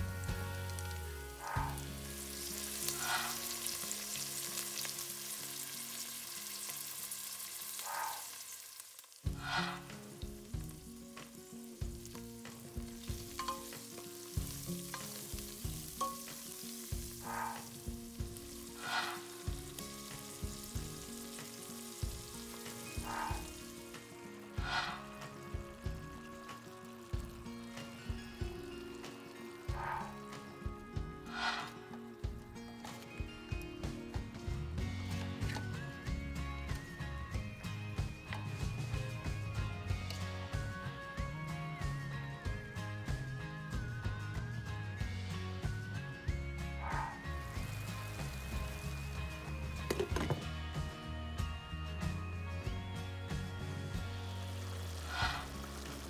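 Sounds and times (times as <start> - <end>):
garlic and onions sizzling in oil: 0.0 - 52.2, 53.3 - 56.0.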